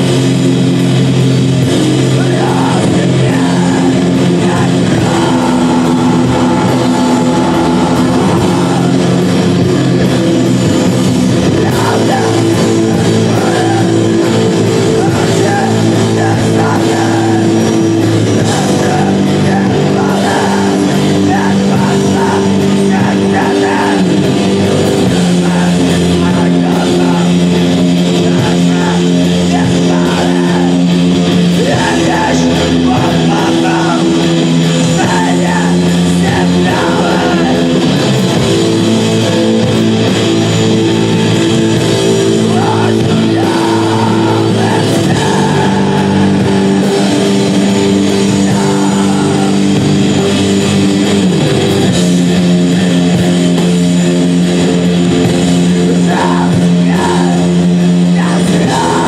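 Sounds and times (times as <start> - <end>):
distorted electric guitar chords: 0.0 - 59.0
live rock band playing: 0.0 - 59.0
person singing: 0.0 - 59.0.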